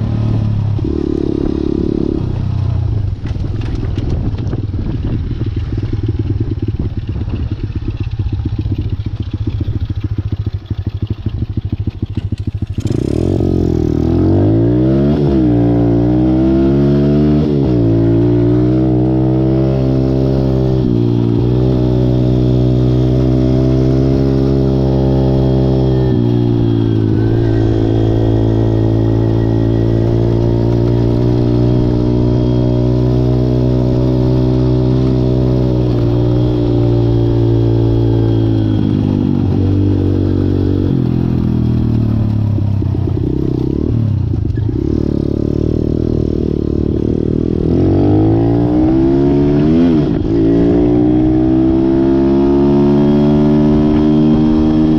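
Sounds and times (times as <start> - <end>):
pit bike engine running: 0.0 - 54.9.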